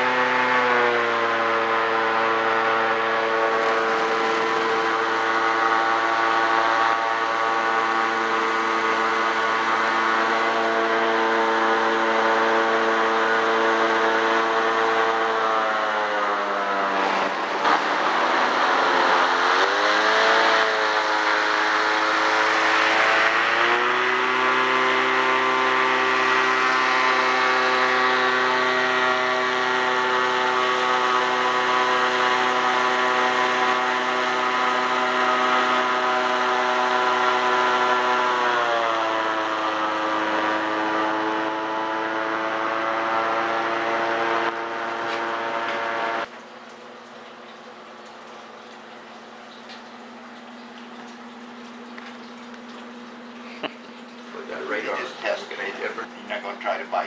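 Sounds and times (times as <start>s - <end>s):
airboat engine and propeller: 0.0s - 46.3s, 50.8s - 57.0s.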